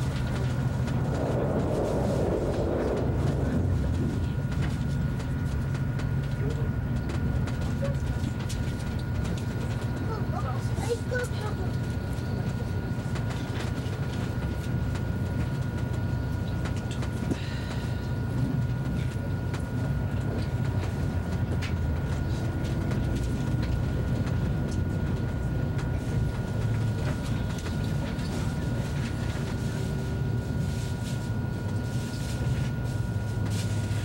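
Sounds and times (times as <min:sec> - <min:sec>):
train rumbling on track: 0:00.0 - 0:34.0.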